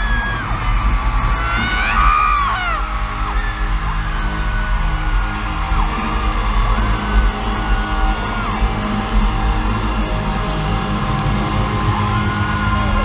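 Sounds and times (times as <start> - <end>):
fans screaming: 0.0 - 13.0
live pop concert music: 0.0 - 13.0.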